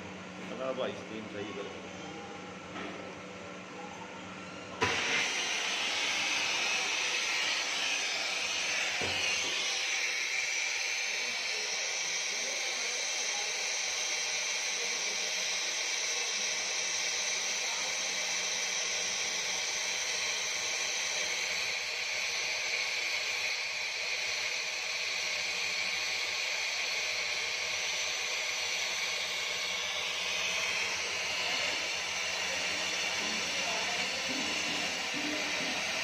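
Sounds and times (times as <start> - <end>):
steam hissing from machine: 4.8 - 36.0.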